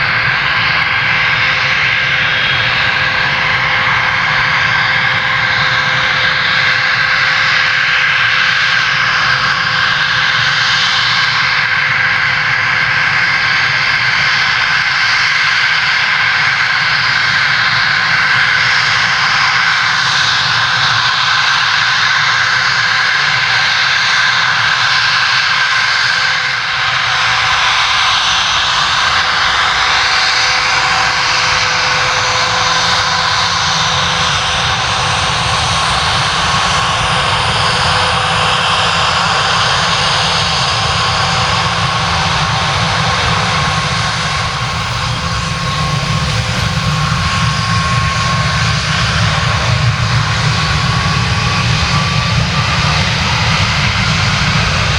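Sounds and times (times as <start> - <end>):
steady whining tones: 0.0 - 15.8, 26.3 - 54.9
jet engines running: 0.0 - 54.9.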